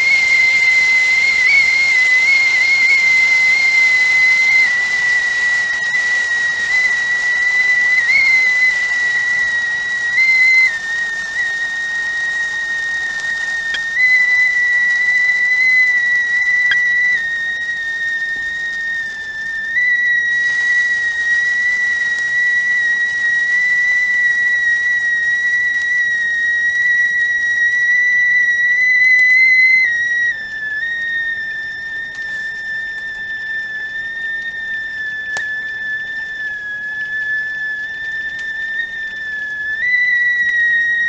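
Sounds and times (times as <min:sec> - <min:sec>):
tea kettle whistling: 0:00.0 - 0:41.0.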